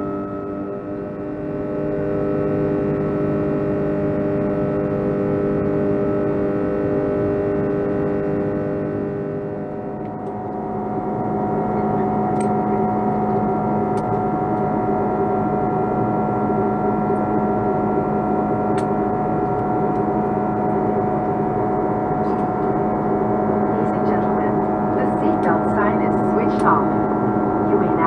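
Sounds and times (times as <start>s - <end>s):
jet engine drone in cabin: 0.0s - 28.0s.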